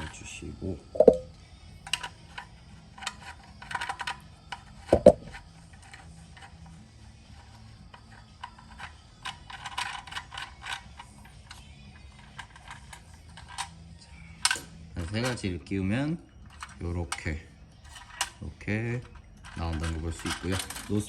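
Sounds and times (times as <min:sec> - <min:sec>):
metal stove parts clicking: 0:01.0 - 0:21.0.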